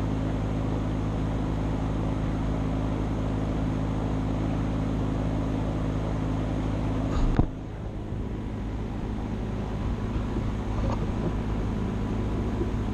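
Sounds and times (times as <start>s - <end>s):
steady background noise: 0.0s - 12.9s
motor humming: 1.2s - 12.9s.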